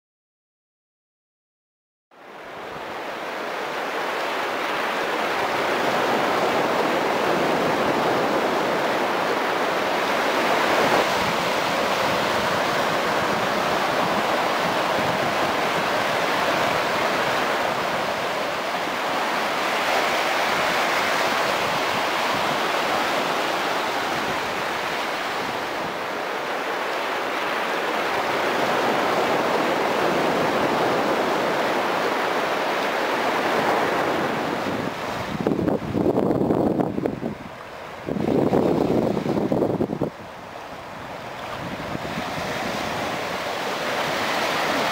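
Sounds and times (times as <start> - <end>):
waves washing over sandy shore: 2.2 - 44.9.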